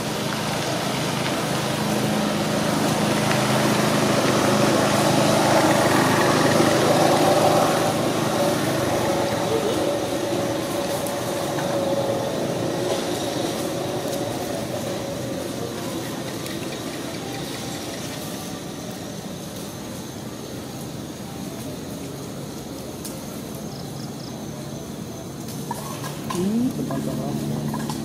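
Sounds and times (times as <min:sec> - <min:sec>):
background hiss: 0:00.0 - 0:28.0
engine hum: 0:00.0 - 0:28.0.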